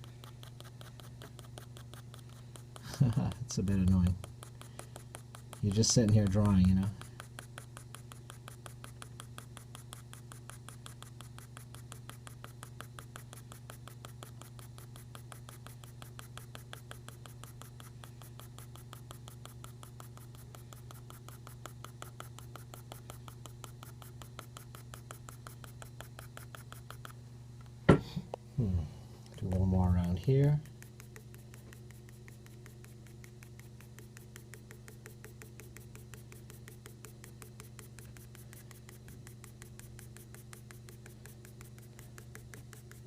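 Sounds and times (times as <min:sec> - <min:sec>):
pencil scratching on paper: 0:00.0 - 0:27.2, 0:29.4 - 0:43.0.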